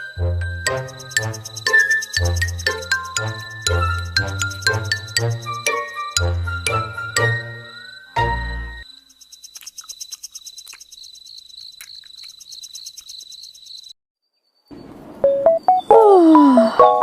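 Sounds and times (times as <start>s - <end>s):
insect chirping trill: 0.0s - 16.8s.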